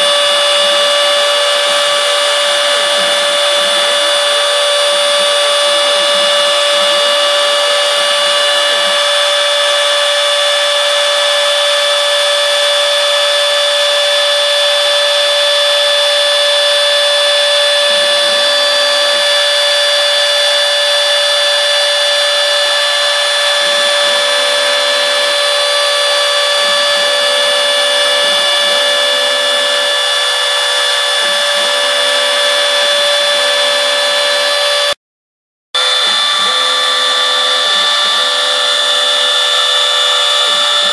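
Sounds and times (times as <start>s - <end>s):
low machine tone: 0.0s - 35.0s, 35.8s - 40.9s
router spindle whining: 0.0s - 35.0s, 35.8s - 40.9s.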